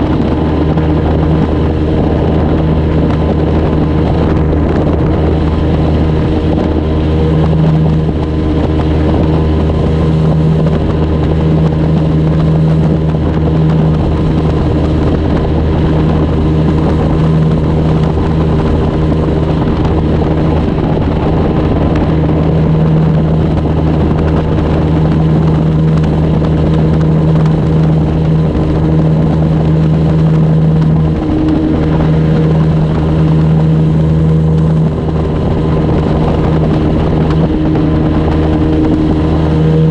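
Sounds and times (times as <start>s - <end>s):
outboard motor running: 0.0s - 39.9s
rush of wind and water: 0.0s - 39.9s.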